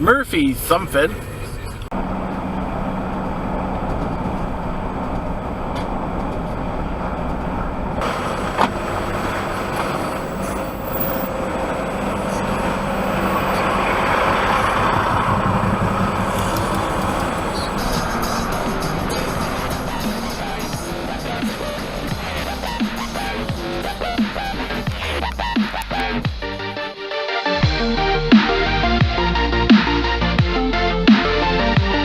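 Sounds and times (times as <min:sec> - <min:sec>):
car engine hum and road noise: 0:00.0 - 0:26.8.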